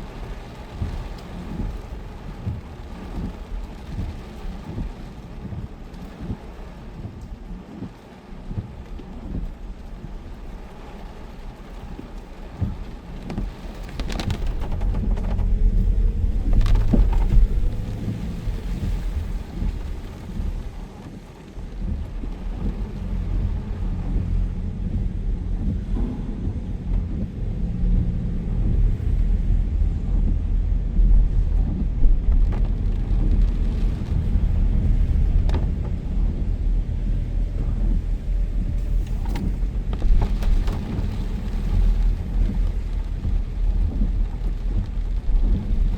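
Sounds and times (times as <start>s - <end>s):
heavy rain: 0.0s - 45.9s
wind buffeting microphone: 0.0s - 45.9s.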